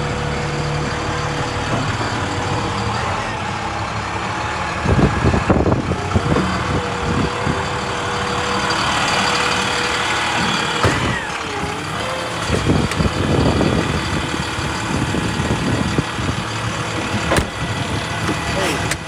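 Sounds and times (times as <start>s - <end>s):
clunks: 0.0s - 19.0s
diesel engine whining: 0.0s - 19.0s.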